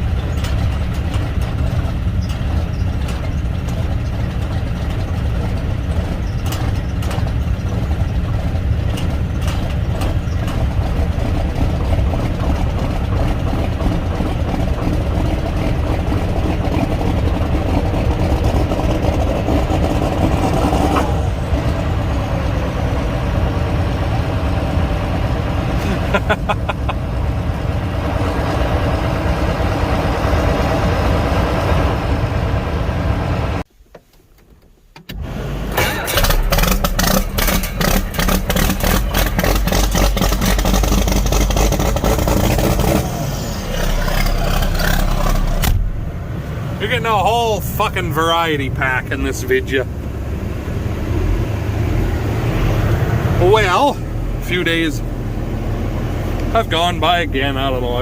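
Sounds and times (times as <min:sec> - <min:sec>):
deep engine with fast clatter: 0:00.0 - 0:33.6, 0:35.6 - 0:58.0
vehicle engine running: 0:00.0 - 0:33.7, 0:35.2 - 0:58.0.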